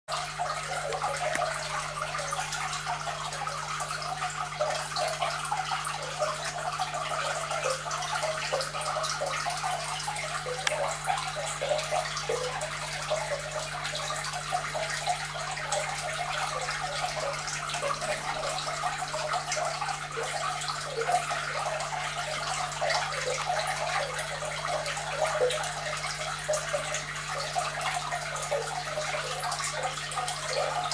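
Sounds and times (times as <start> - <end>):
aquarium water bubbling: 0.1 - 30.9.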